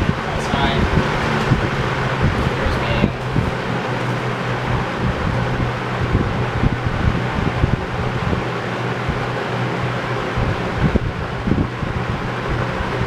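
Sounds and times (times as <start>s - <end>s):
air buffeting microphone: 0.0s - 13.0s
box fan running: 0.0s - 13.0s.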